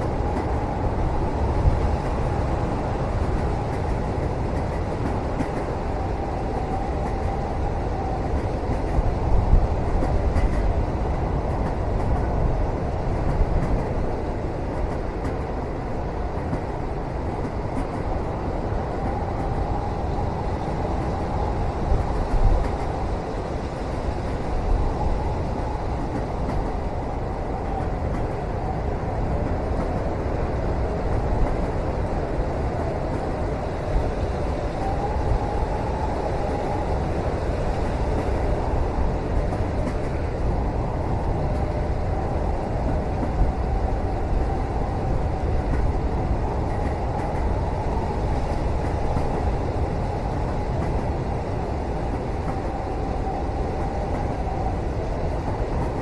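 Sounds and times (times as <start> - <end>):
moving train rumble: 0.0 - 56.0.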